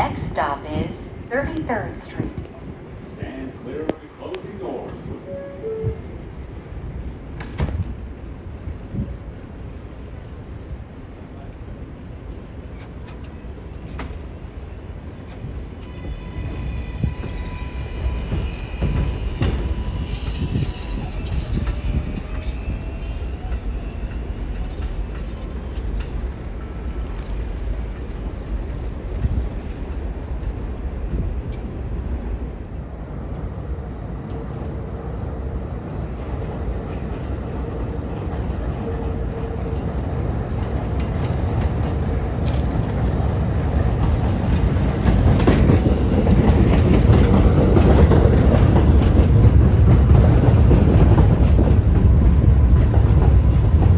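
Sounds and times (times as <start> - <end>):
subway train wheels rumbling on rail: 0.0 - 53.9.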